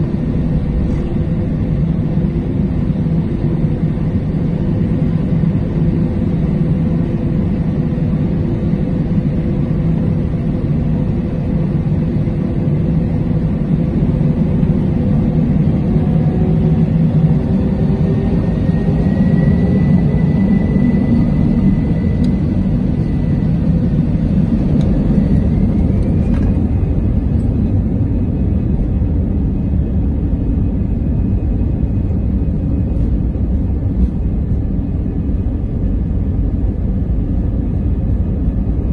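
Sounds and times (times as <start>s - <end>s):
jet engine rumble: 0.0s - 38.9s
jet engine whine rising: 0.0s - 38.9s.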